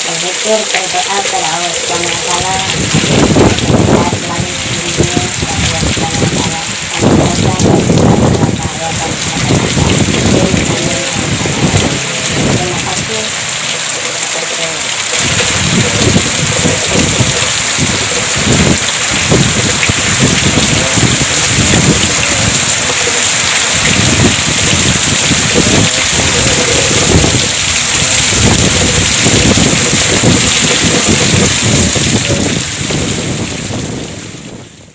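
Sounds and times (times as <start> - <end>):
heavy rain pouring: 0.0 - 34.9
wind gusts on microphone: 1.9 - 13.7, 15.1 - 34.9.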